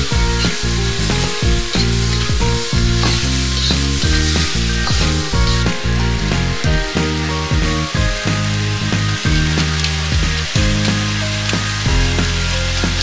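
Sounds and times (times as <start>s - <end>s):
background music: 0.0s - 13.0s
chicken sizzling in a wok: 0.0s - 13.0s.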